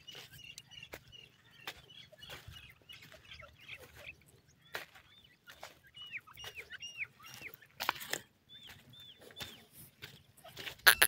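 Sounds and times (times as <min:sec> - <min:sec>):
chicks cheeping: 0:00.0 - 0:11.0.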